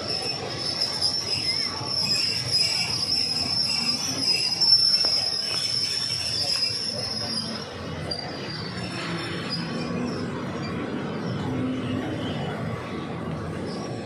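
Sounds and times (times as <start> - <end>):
rumble of moving train carriages: 0.0 - 14.0
train wheels squealing on rails: 0.0 - 14.0.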